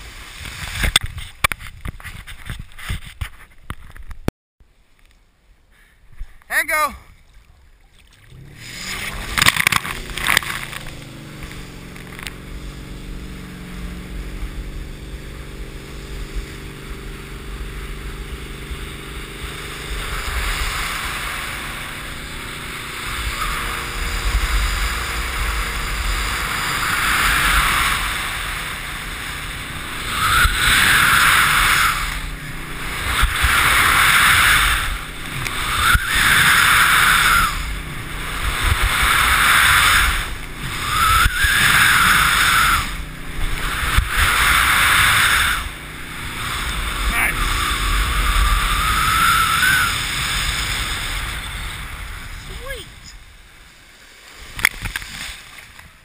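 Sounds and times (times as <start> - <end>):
rush of water spray: 0.0 - 3.0, 7.9 - 56.0
boat engine accelerating: 7.7 - 56.0.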